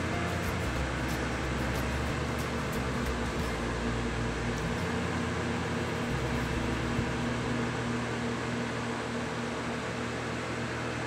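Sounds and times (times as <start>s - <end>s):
room hiss: 0.0s - 9.5s
low hum: 0.0s - 10.6s.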